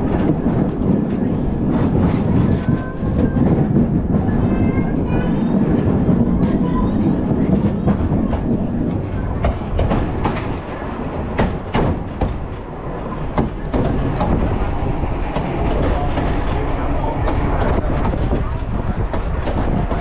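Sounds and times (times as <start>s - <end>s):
tram wheels rumbling on rails: 0.0s - 20.0s
wheels clicking over rail joints: 0.0s - 20.0s.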